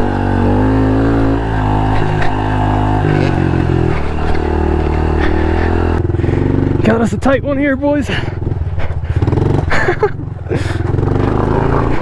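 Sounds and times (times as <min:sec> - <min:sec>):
small motorcycle engine revving: 0:00.0 - 0:07.3, 0:08.1 - 0:12.0.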